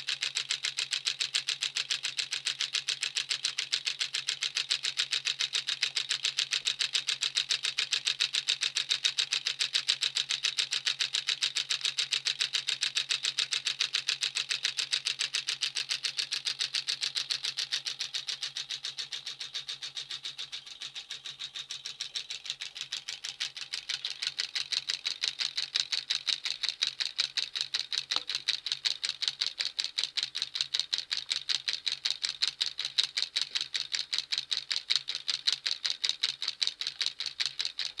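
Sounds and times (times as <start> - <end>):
electromagnet engine clicking: 0.0 - 38.0.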